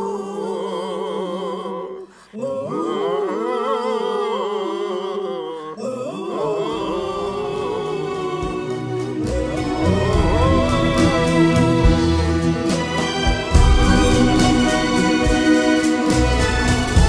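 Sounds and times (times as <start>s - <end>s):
voices humming tune: 2.4s - 16.6s.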